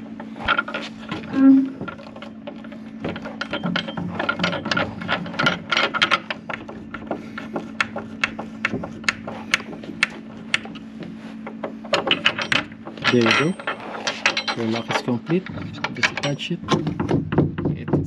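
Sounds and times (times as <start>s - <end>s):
small clicks and creaks: 0.2s - 16.4s.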